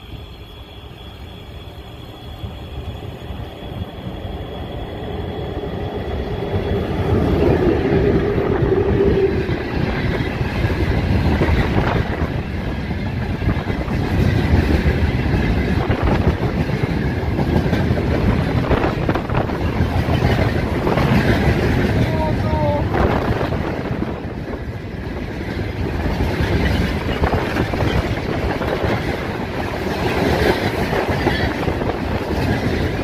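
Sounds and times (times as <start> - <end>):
electric locomotive humming: 0.0 - 33.0
wagons rumbling and clacking on rails: 0.0 - 33.0.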